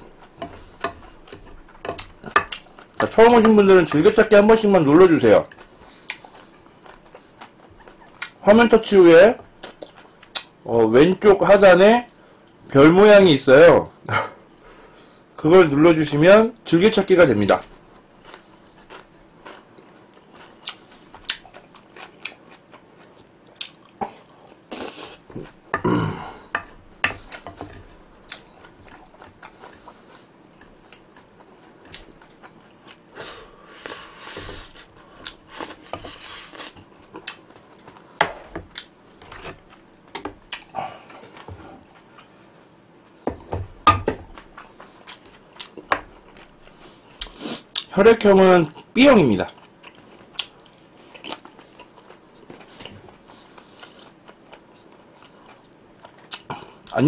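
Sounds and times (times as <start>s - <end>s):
chewing food: 0.0s - 10.5s, 17.5s - 47.9s, 48.6s - 57.0s.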